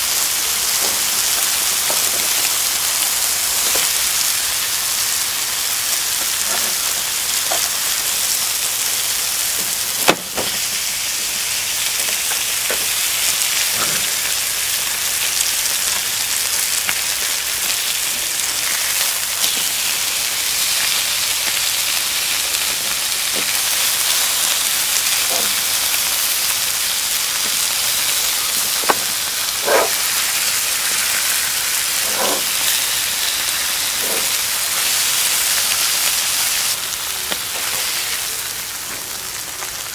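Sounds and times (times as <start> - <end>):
steaks sizzling on a griddle pan: 0.0 - 39.9.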